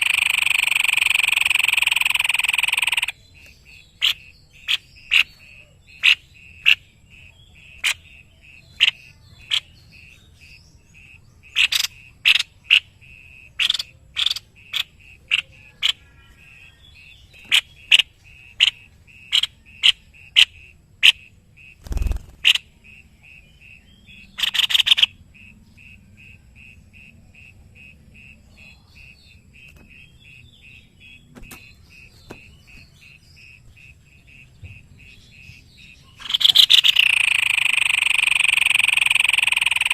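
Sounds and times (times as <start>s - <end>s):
bird calling in sharp notes: 0.0s - 27.2s, 27.8s - 39.9s
rhythmic pulsing chirp: 0.0s - 39.9s.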